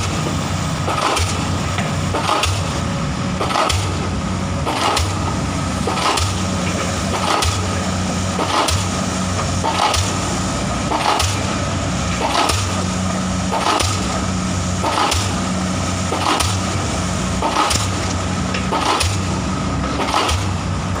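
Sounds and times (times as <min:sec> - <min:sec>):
short hissing clatter: 0:00.0 - 0:02.8, 0:04.6 - 0:20.8
excavator diesel engine running: 0:00.0 - 0:21.0.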